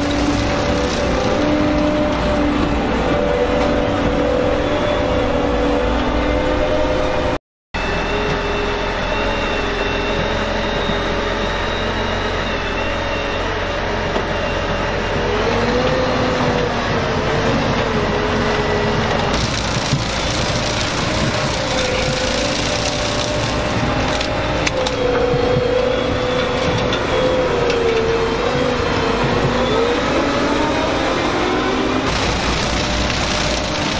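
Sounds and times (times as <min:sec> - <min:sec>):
harvester diesel drone: 0:00.0 - 0:33.9
wavering whine: 0:00.0 - 0:33.9.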